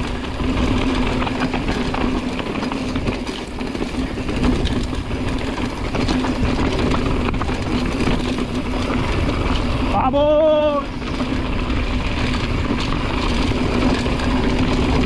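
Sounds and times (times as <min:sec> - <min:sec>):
bike rattling: 0:00.0 - 0:15.0
tyres rumbling over dirt and rock: 0:00.0 - 0:15.0
wind noise on microphone: 0:00.0 - 0:15.0.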